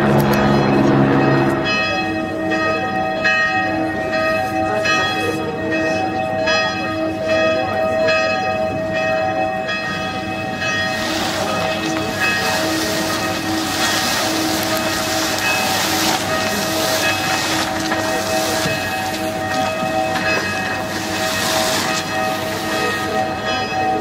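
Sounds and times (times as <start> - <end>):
bells ringing: 0.0 - 24.0.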